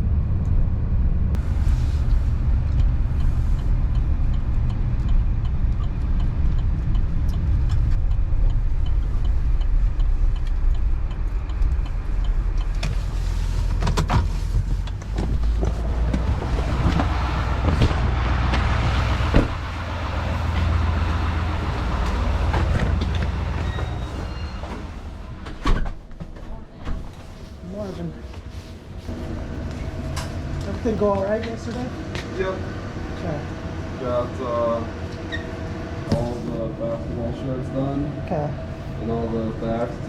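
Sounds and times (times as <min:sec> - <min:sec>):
vehicle engine and road rumble: 0:00.0 - 0:40.0.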